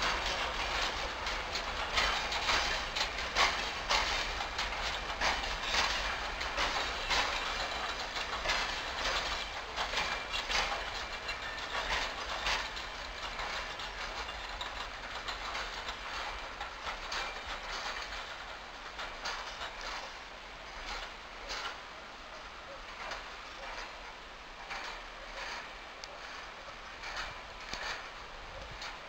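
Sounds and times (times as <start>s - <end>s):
train wheels clacking over rail joints: 0.0s - 29.0s.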